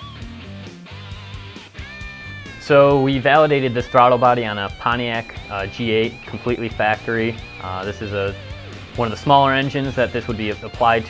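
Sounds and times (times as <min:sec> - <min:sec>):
electric guitar lead over bass: 0:01.8 - 0:11.0.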